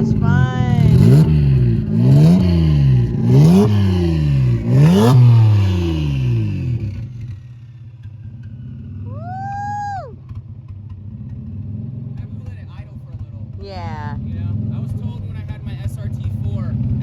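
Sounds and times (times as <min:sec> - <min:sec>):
car engine revving: 0:00.0 - 0:09.2, 0:10.3 - 0:17.0.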